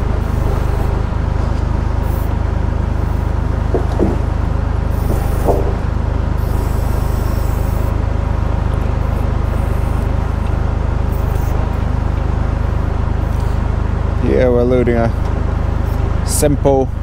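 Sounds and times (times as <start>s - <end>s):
hydraulic oil hissing: 0.0s - 17.0s
tractor engine running: 0.0s - 17.0s.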